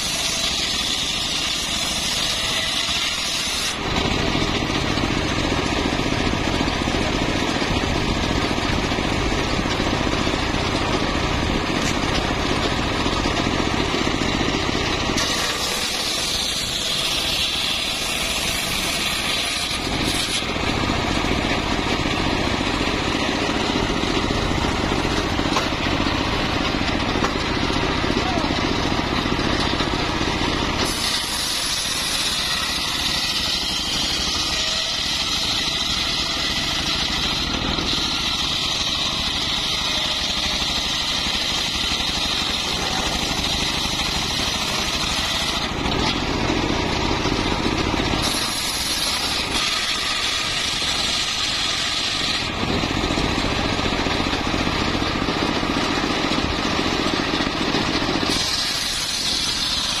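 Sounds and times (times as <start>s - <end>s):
circular sawmill sawing log: 0.0s - 60.0s.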